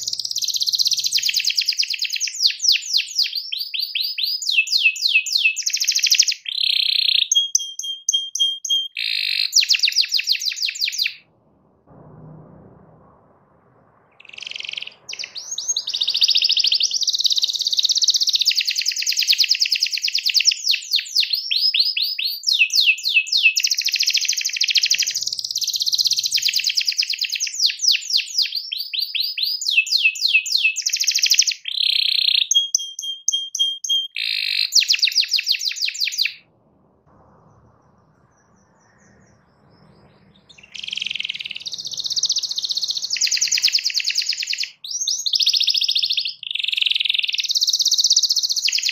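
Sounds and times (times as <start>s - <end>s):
canary singing trills: 0.0s - 11.3s, 14.2s - 36.5s, 37.1s - 48.9s.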